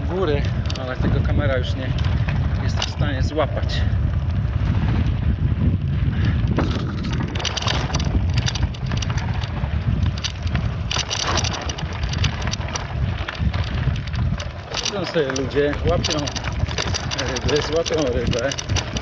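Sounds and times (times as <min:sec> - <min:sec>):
bicycle tyres crunching on gravel: 0:00.0 - 0:19.0
wind buffeting microphone: 0:00.0 - 0:19.0.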